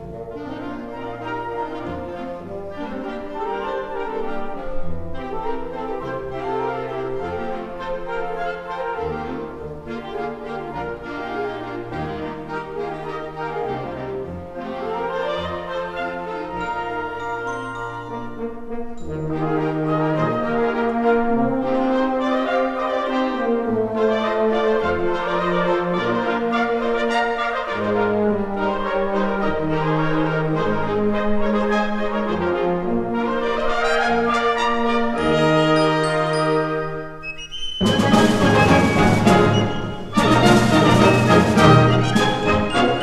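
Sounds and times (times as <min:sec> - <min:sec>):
wind band playing brass chords: 0:00.0 - 0:43.0.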